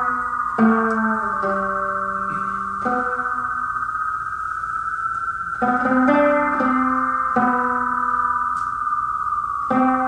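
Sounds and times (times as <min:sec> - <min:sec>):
bowed viola notes: 0:00.0 - 0:04.2, 0:05.1 - 0:10.0
high drone: 0:00.0 - 0:10.0.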